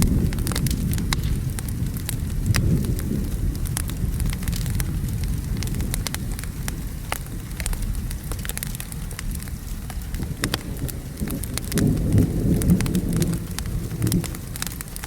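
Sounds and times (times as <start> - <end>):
distant thunder: 0.0 - 15.0
rain rumble: 0.0 - 15.0
wood fire crackling and popping: 0.0 - 15.0.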